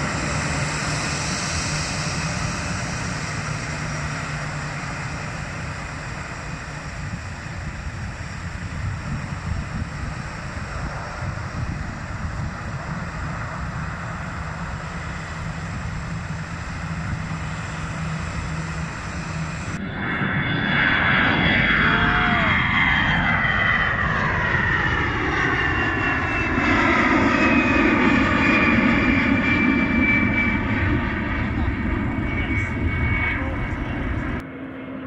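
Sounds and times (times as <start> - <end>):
wind noise: 0.0 - 34.4
jet airliner flying overhead: 0.0 - 35.0.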